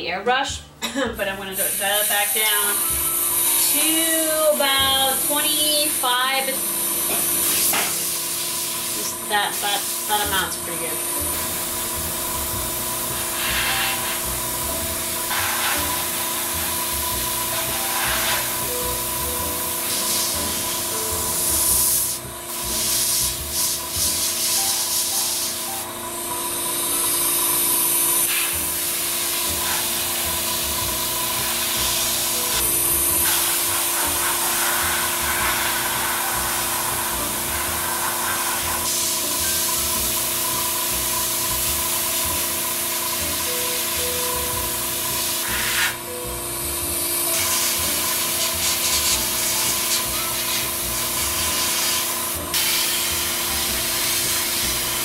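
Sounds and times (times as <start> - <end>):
compressor humming: 0.0 - 55.0
airbrush hissing: 1.2 - 25.8, 26.6 - 46.0, 47.3 - 55.0.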